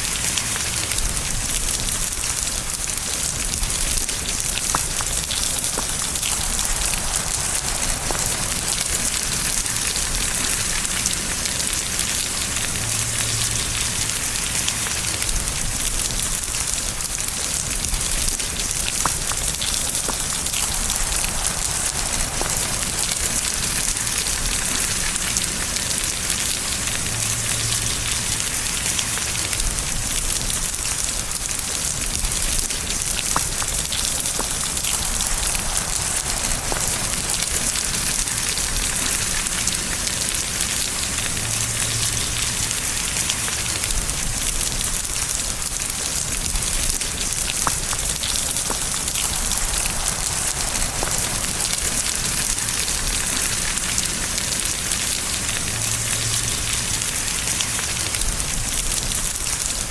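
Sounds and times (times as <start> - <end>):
rain pattering: 0.0 - 59.9
faint low rumble: 0.4 - 59.9.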